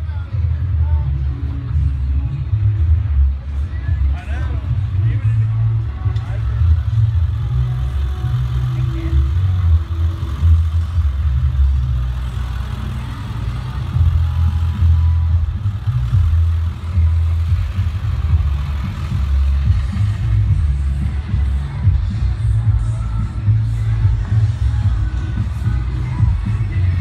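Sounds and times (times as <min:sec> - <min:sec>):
motorcycle engines rumbling: 0:00.0 - 0:27.0.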